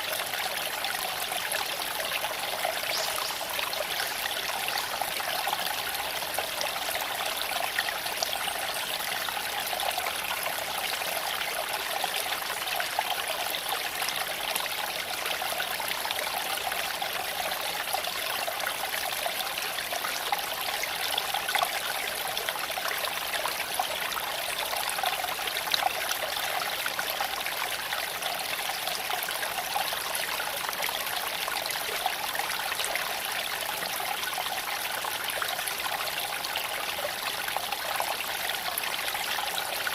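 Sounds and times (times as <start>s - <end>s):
creek water flowing over stones: 0.0s - 39.9s.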